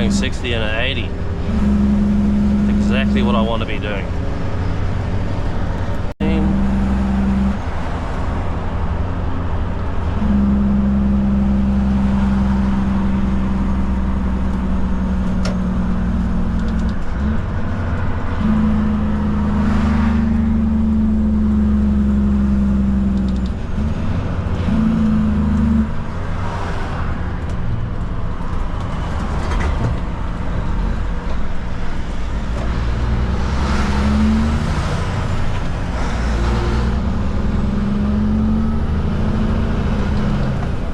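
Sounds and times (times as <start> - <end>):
truck diesel engine driving: 0.0 - 40.9.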